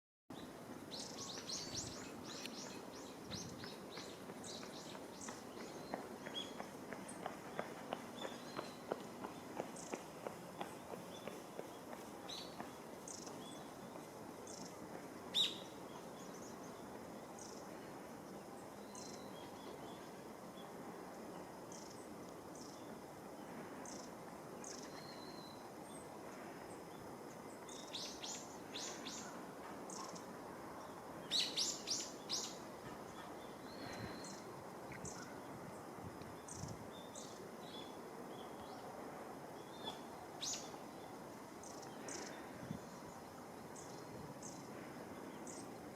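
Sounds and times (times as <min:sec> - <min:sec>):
steady background hiss: 0:00.3 - 0:45.9.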